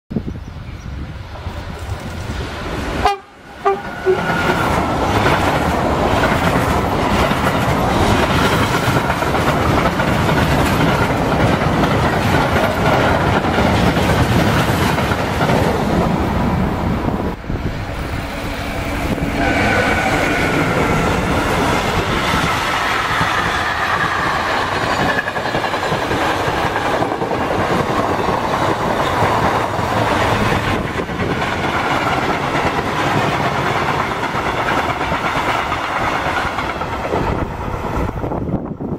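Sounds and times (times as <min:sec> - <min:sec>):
freight train rolling past: 0:00.2 - 0:38.9.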